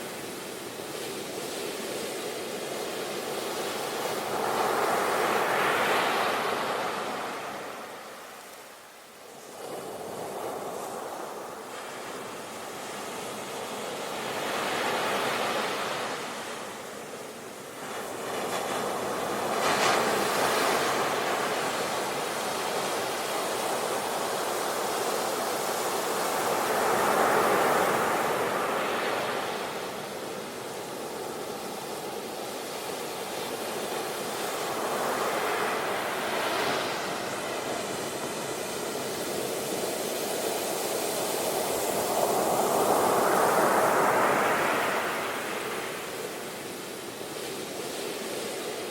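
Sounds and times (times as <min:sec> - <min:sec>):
sea waves breaking on shore: 0:09.4 - 0:48.9.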